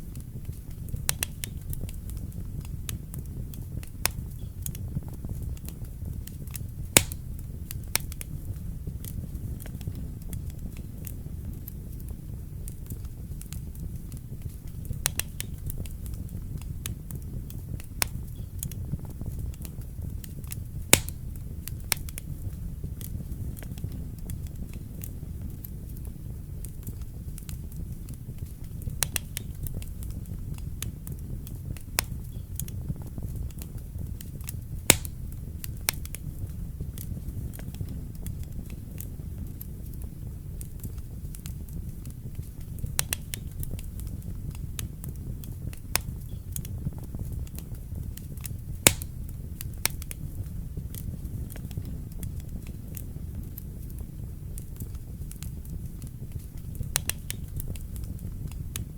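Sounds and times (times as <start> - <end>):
fire crackling and popping: 0.0 - 58.9
fire rumbling: 0.0 - 58.9.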